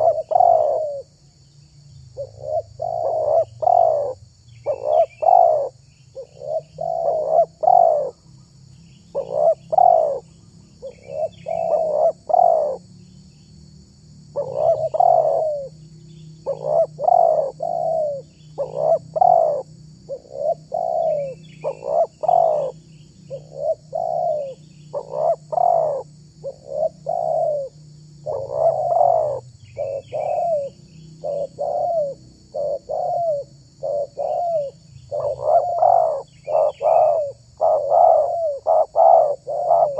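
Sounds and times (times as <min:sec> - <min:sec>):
dove cooing: 0:00.0 - 0:01.2, 0:02.2 - 0:08.2, 0:09.1 - 0:12.9, 0:14.3 - 0:15.8, 0:16.4 - 0:39.9
faint small bird chirps: 0:00.0 - 0:13.7, 0:14.3 - 0:39.9
high insect drone: 0:00.0 - 0:39.9.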